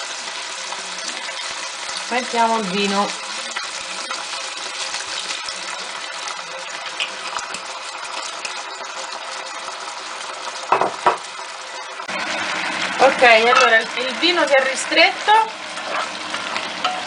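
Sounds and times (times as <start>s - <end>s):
wine sizzling in hot pan: 0.0s - 17.0s.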